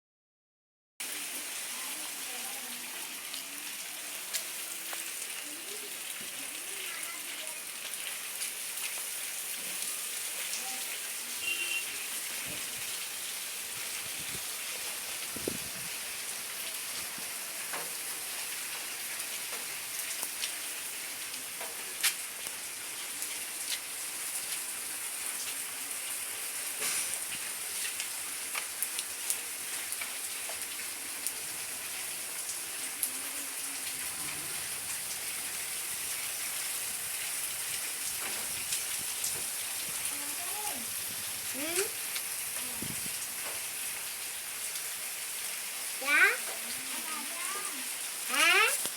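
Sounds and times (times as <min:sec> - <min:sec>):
rain hissing: 0:01.0 - 0:48.9
raindrops ticking on surfaces: 0:01.0 - 0:48.9.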